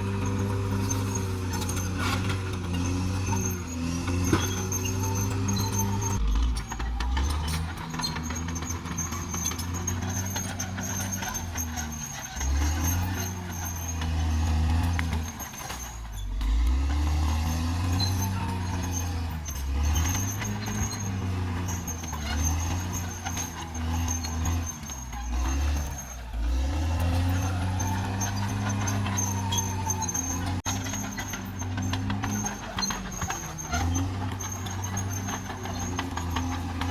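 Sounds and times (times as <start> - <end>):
bulldozer diesel engine working: 0.0 - 36.9.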